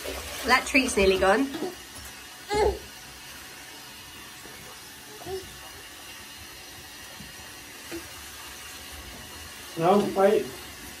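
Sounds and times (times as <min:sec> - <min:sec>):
shower running: 0:00.0 - 0:11.0.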